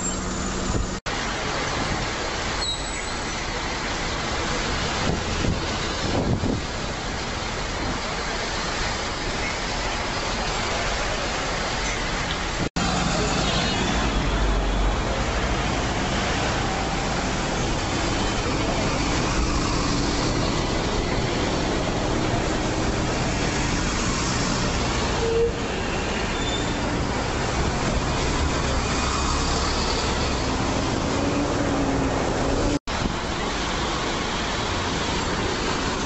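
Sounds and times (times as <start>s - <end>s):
buses passing close: 0.0s - 36.0s
road traffic: 0.0s - 36.0s.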